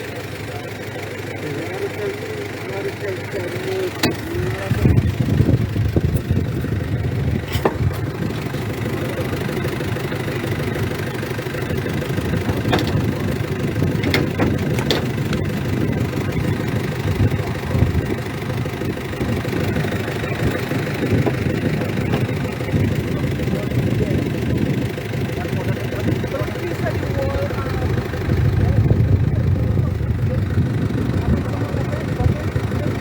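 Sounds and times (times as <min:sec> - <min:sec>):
car engine rumbling: 0:00.0 - 0:33.0.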